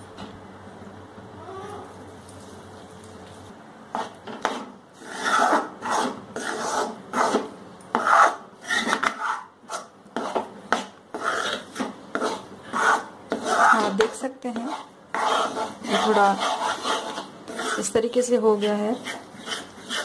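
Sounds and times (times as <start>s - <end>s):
metal spatula scraping a pan: 3.9s - 20.0s.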